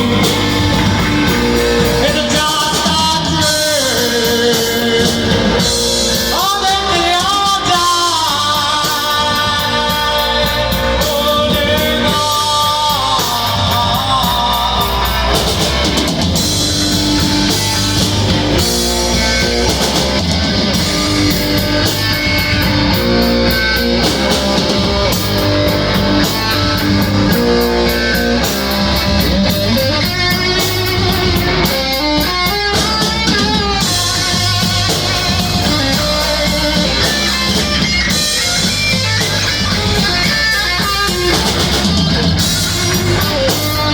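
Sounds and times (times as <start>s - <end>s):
person singing: 0.0s - 16.6s, 17.4s - 43.9s
drum kit: 0.0s - 43.9s
electric guitar: 0.0s - 43.9s.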